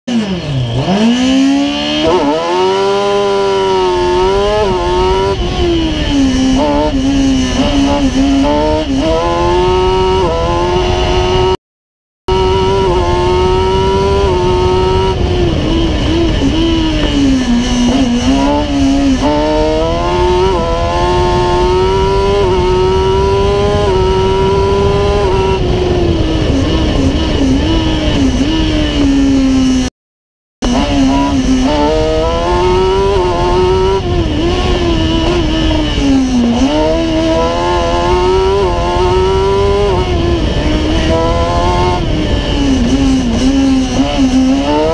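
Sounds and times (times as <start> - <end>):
motorcycle engine revving: 0.1 - 11.6, 12.3 - 29.9, 30.6 - 44.9
wind and road noise: 0.1 - 11.6, 12.3 - 29.9, 30.6 - 44.9.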